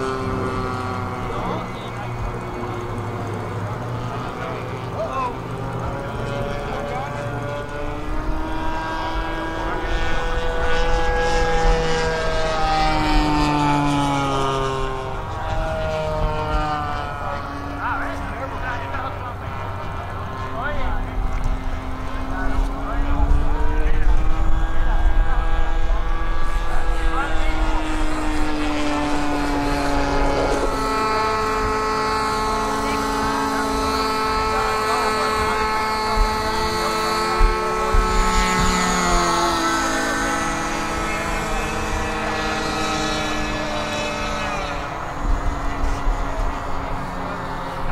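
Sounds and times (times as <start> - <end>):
model airplane engine running: 0.0 - 47.9.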